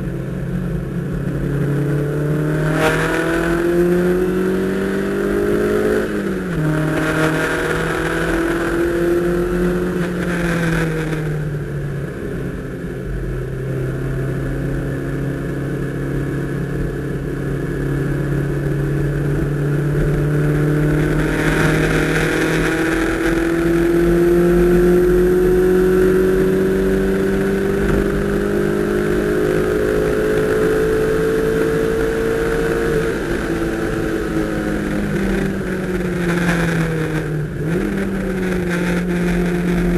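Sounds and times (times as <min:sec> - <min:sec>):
car engine from inside cabin: 0:00.0 - 0:39.9.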